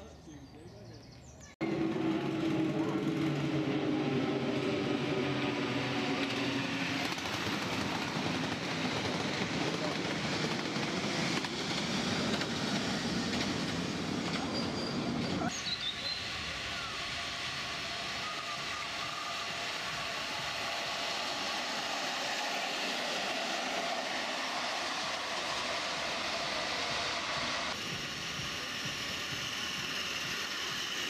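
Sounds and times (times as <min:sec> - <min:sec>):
train wheels rumbling on rails: 0:01.6 - 0:31.0.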